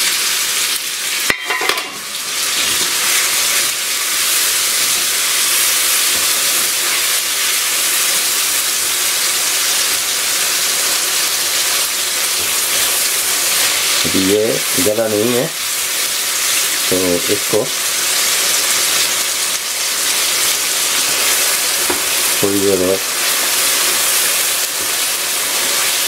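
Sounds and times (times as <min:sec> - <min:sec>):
chicken sizzling in a wok: 0:00.0 - 0:26.0.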